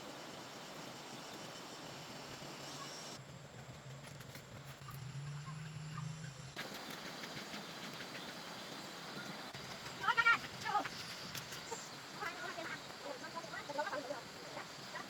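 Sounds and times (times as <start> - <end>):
distant engine hum: 0.0 - 15.0
outdoor background noise: 0.0 - 15.0.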